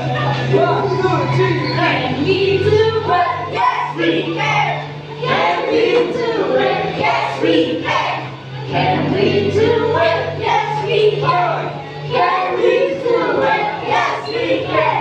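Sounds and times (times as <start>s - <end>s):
bass line: 0.0s - 15.0s
voices singing together: 0.0s - 15.0s.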